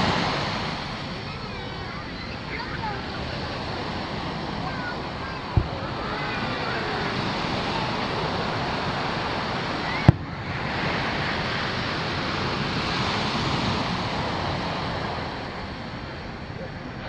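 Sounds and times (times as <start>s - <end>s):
surf washing onto sand: 0.0s - 17.0s.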